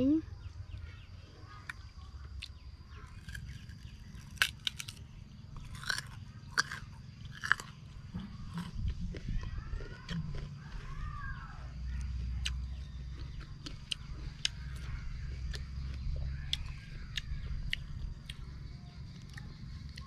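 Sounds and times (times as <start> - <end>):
crunchy fruit chewing: 0.3 - 20.0.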